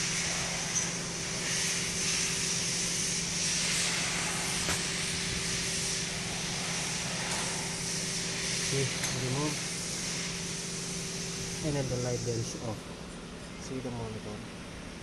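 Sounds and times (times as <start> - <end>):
even hiss: 0.0 - 12.8
low machine hum: 0.0 - 15.0.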